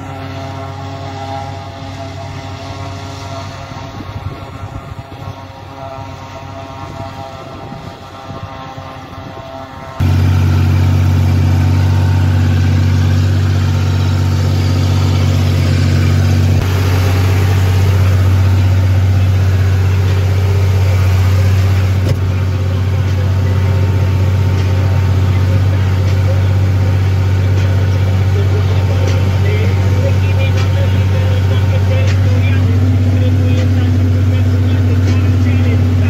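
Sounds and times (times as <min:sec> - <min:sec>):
tractor engine droning under load: 0:00.0 - 0:36.0.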